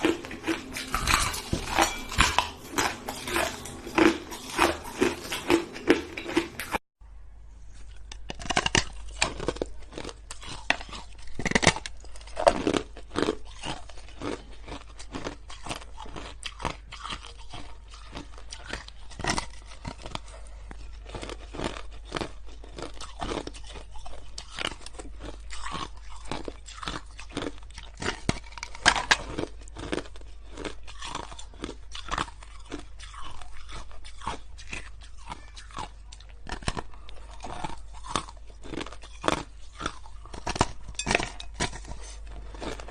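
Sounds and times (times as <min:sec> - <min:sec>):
person chewing crunchy ice: 0:00.0 - 0:06.8, 0:07.7 - 0:42.9.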